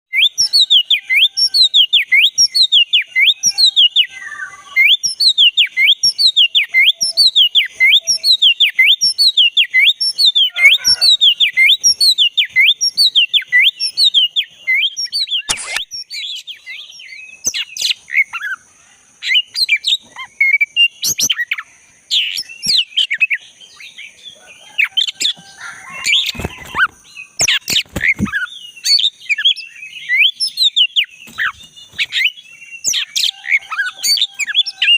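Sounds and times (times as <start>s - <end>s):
bird singing whistles: 0.1s - 18.6s, 19.2s - 23.9s, 25.9s - 34.9s.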